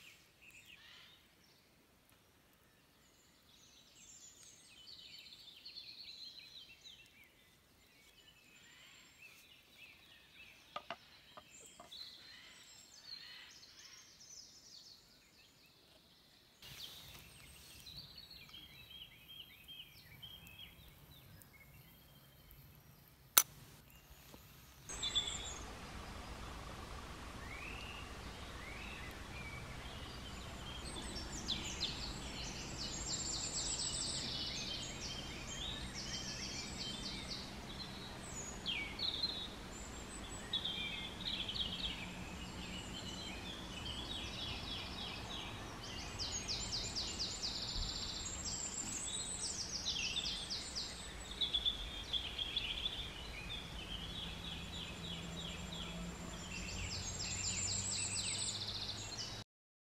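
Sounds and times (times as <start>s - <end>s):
songbirds singing trills: 0.0s - 59.4s.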